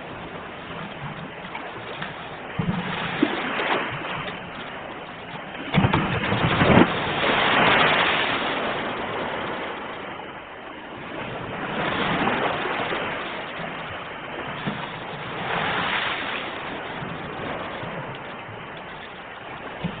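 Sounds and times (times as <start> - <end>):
sea waves breaking on shore: 0.0 - 20.0.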